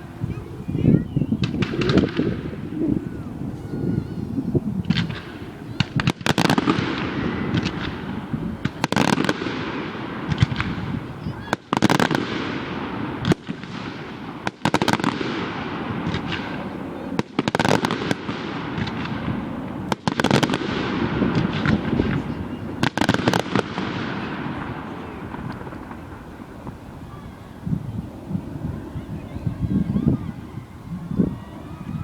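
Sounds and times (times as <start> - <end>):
fireworks bangs: 0.0 - 32.0
fireworks crackle and echo: 1.4 - 32.0.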